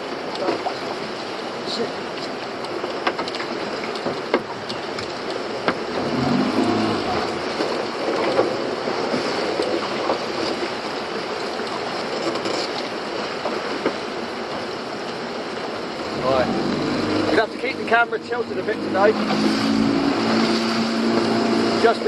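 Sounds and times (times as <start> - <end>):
boat motor: 0.0 - 22.0
water rushing: 0.0 - 22.0.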